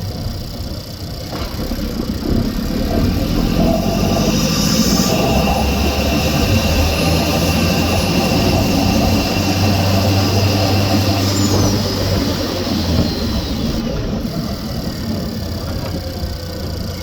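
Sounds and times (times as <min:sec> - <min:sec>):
car engine under throttle: 0:00.0 - 0:17.0
low droning noise: 0:00.0 - 0:17.0.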